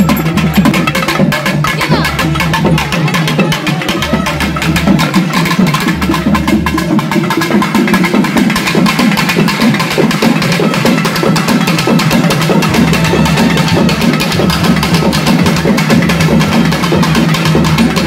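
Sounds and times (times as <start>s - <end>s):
fast continuous drumming: 0.0s - 18.0s.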